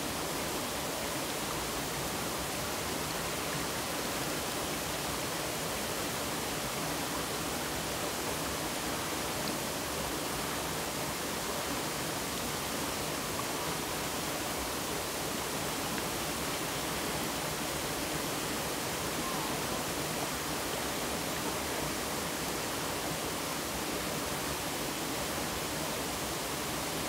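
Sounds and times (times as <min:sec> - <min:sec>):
stream flowing: 0:00.0 - 0:27.0.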